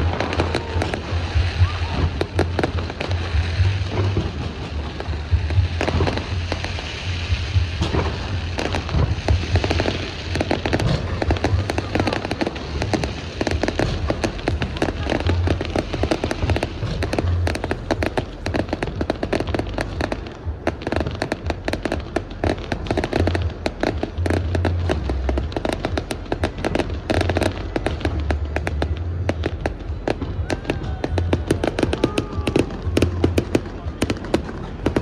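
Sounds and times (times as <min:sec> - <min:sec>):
fireworks booms: 0:00.0 - 0:35.0
fireworks crackling and popping: 0:00.0 - 0:35.0
music playing: 0:00.0 - 0:35.0.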